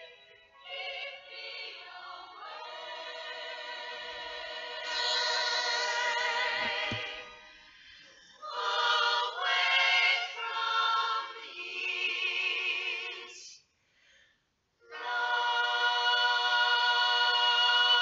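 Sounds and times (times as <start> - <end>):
a cappella singing: 0.0 - 7.5, 8.3 - 13.6, 14.9 - 18.0.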